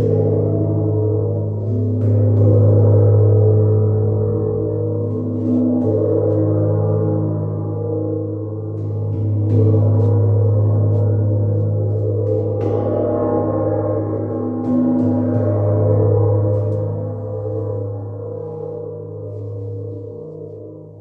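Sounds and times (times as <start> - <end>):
large gong ringing: 0.0 - 21.0.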